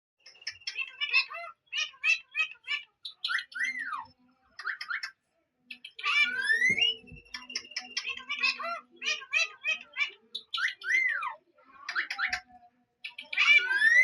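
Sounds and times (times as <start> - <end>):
parrot chirping calls: 0.3 - 4.0, 4.6 - 12.4, 13.0 - 14.0.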